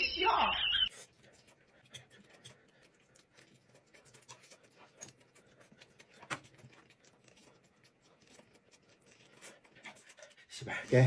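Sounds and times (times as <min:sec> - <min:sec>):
quiet chewing: 0:00.8 - 0:11.0
pancakes rustling being folded: 0:00.9 - 0:11.0.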